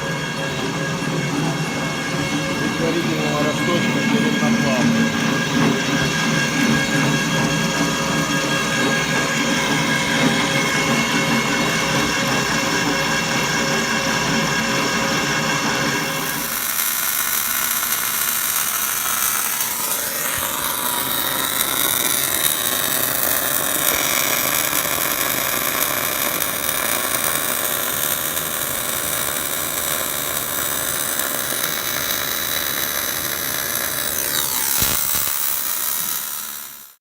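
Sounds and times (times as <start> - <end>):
metalworking machine running: 0.0 - 37.0.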